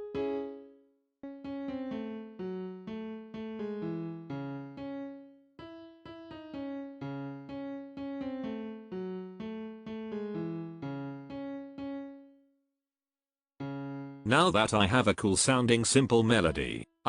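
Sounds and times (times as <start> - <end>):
piano melody: 0.0 - 12.6, 13.6 - 17.0.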